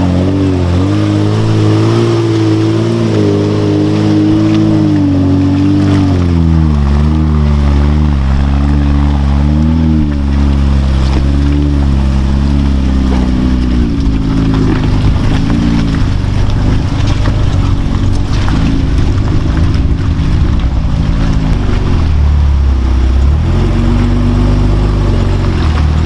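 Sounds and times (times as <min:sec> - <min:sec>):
rough rushing noise: 0:00.0 - 0:26.0
truck engine revving: 0:00.0 - 0:26.0.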